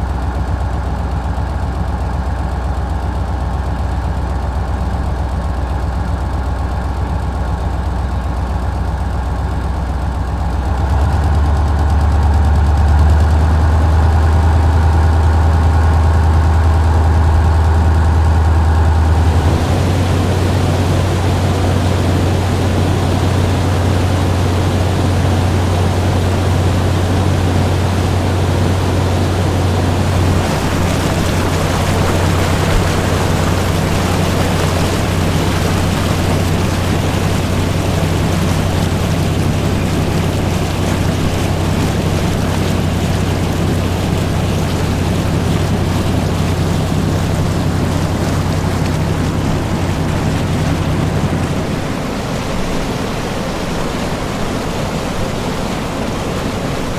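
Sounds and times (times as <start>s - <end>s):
motorboat engine drone: 0.0s - 56.9s
water rushing along hull: 1.3s - 56.9s.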